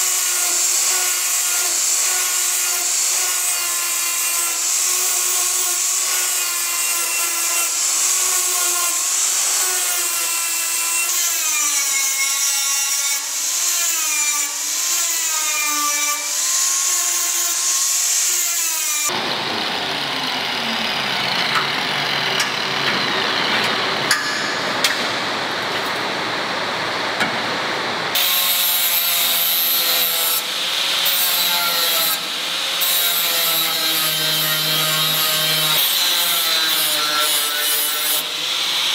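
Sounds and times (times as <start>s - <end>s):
angle grinder grinding steel: 0.1s - 24.6s, 28.2s - 38.9s.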